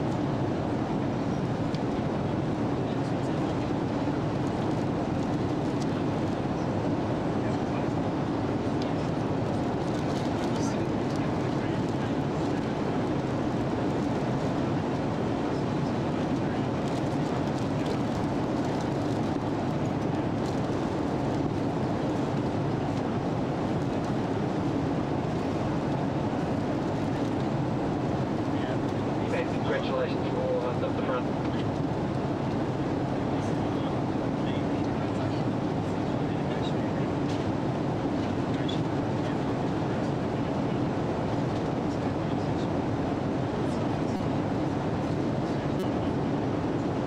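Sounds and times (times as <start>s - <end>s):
airliner cabin engine and airflow rush: 0.0s - 47.0s.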